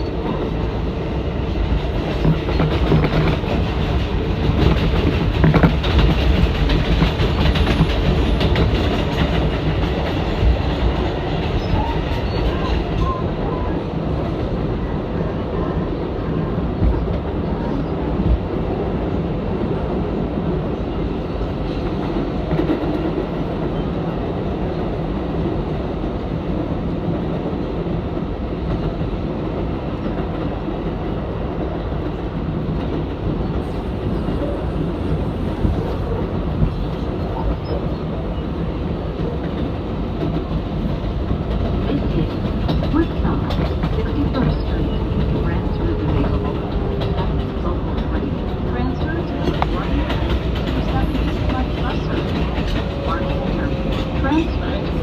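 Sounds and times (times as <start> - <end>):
subway car wheels rumbling on rail: 0.0 - 55.0.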